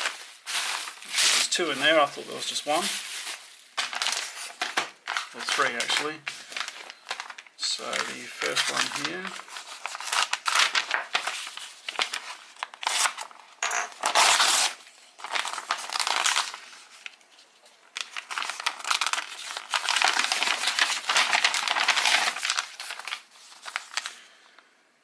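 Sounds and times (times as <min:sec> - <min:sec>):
wrapping crinkled and torn: 0:00.0 - 0:24.4.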